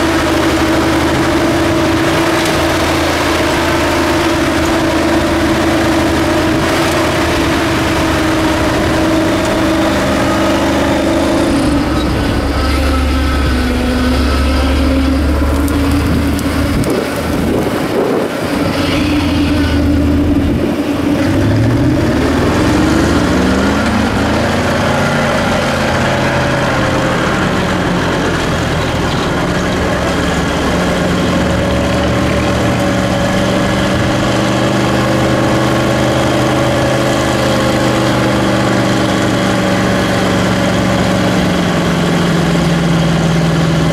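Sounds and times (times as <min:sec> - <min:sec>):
truck engine running under load: 0:00.0 - 0:43.9.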